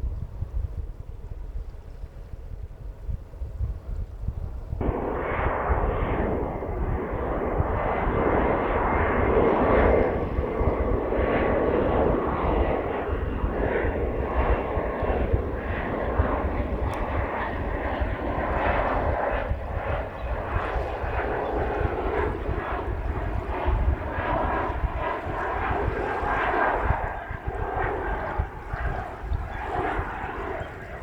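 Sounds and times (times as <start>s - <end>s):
jet engine roar: 4.7s - 31.0s.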